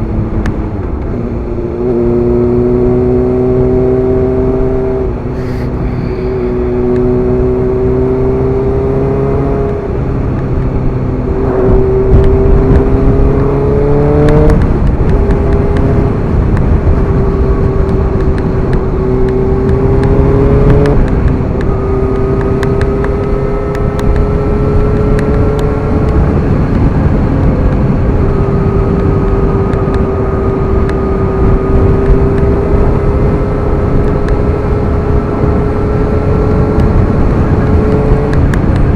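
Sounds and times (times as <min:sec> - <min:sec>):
motorcycle engine accelerating: 0:00.0 - 0:38.9
wind rushing over microphone: 0:00.0 - 0:38.9.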